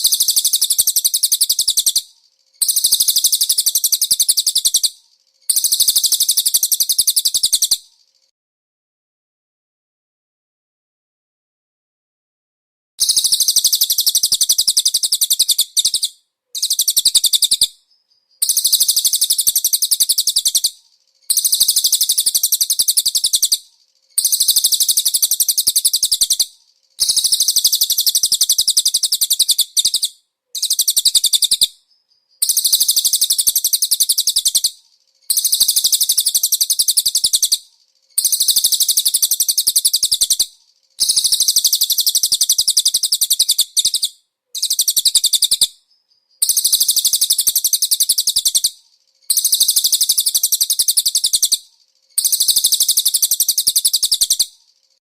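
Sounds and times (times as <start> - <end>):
high rapid bird chirping trill: 0.0 - 8.3, 13.0 - 17.7, 18.4 - 23.6, 24.2 - 31.7, 32.4 - 48.7, 49.3 - 51.6, 52.2 - 55.0.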